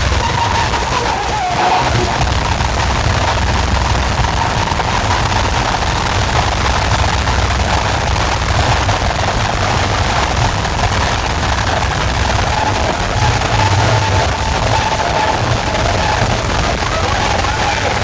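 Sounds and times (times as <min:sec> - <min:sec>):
loud sound system bass rumble: 0:00.0 - 0:18.0.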